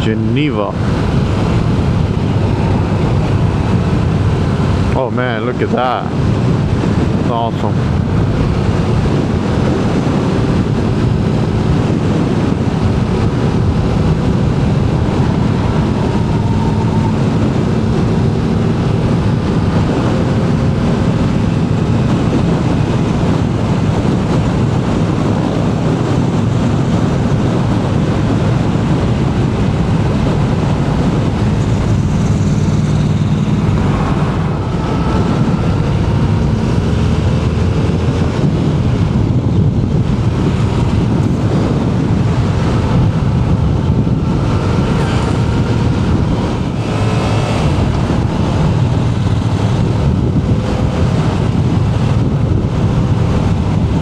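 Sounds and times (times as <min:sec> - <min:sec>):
wind rush on microphone: 0:00.0 - 0:54.0
motorcycle engine running: 0:00.8 - 0:05.1, 0:07.8 - 0:54.0.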